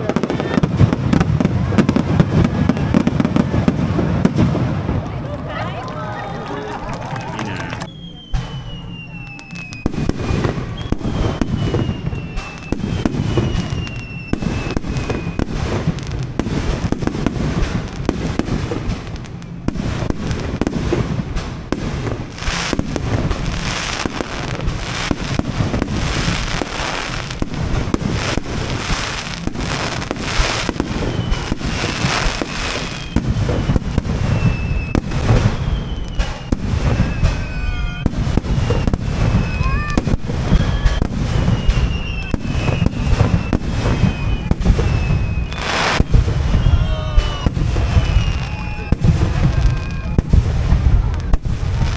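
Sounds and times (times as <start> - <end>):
fireworks crackling: 0.0 - 51.9
firework whistles: 7.7 - 51.9
firework shells booming: 7.8 - 51.9.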